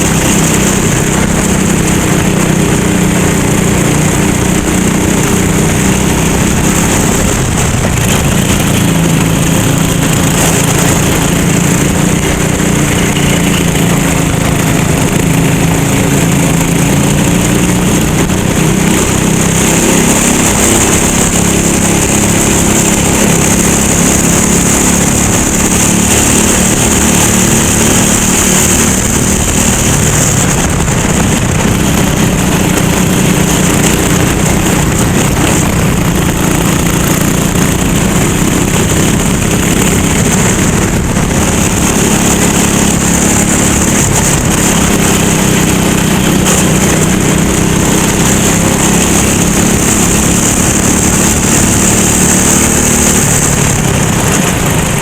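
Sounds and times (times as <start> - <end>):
racing kart engine running: 0.0 - 55.0.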